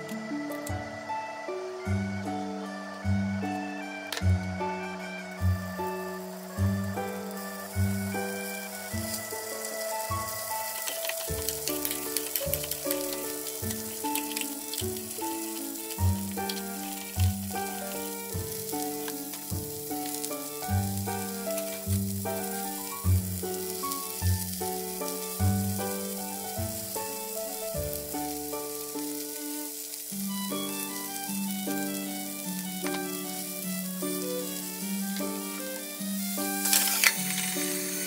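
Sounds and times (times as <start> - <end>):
background music: 0.0 - 38.0
food sizzling in hot oil: 0.0 - 38.0.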